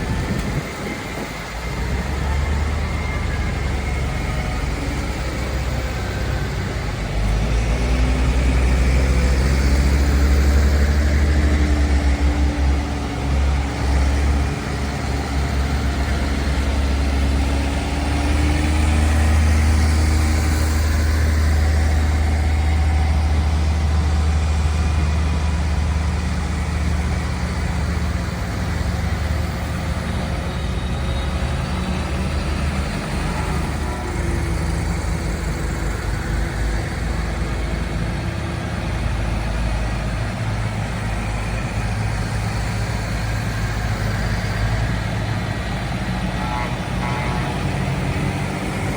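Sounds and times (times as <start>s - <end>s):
tractor diesel engines rumbling: 0.0s - 48.9s.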